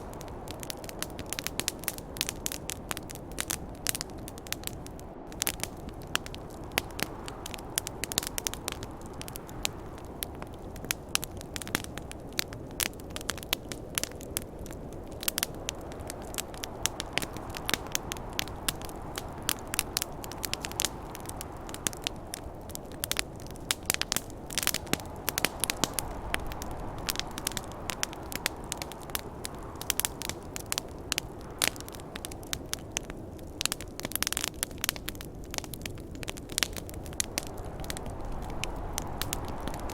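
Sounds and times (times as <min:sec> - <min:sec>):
burning wood popping: 0:00.0 - 0:39.9
campfire crackling: 0:00.0 - 0:39.9
low rush of flames: 0:00.0 - 0:39.9
wind: 0:00.0 - 0:39.9.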